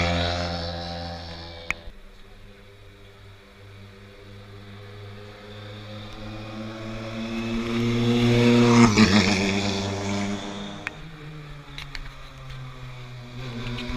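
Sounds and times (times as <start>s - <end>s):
rally car engine passing by: 0.0s - 1.9s, 2.6s - 13.9s.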